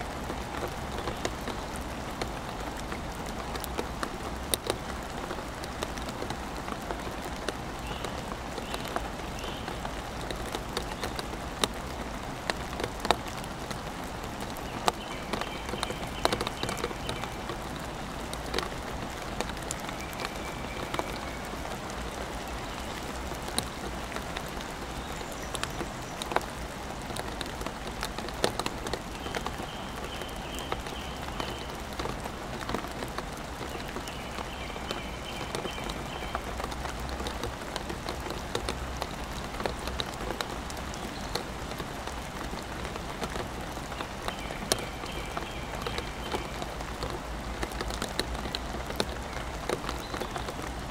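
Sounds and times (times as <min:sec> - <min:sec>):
rain pattering: 0:00.0 - 0:50.9
raindrops clicking close by: 0:00.0 - 0:50.9.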